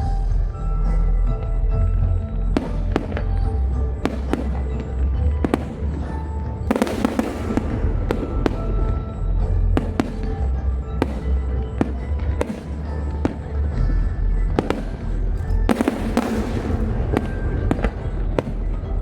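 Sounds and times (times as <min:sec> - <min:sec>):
fireworks bangs: 0:02.6 - 0:19.0
fireworks crackling: 0:02.6 - 0:19.0.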